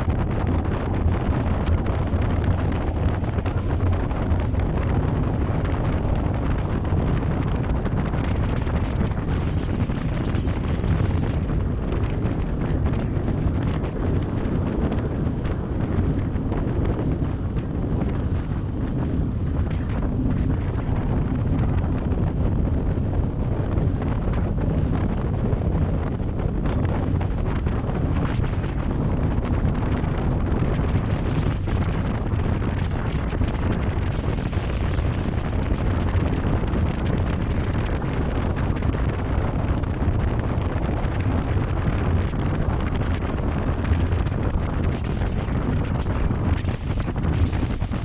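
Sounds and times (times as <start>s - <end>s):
water rushing under hull: 0.0s - 48.0s
wind buffeting microphone: 0.0s - 48.0s.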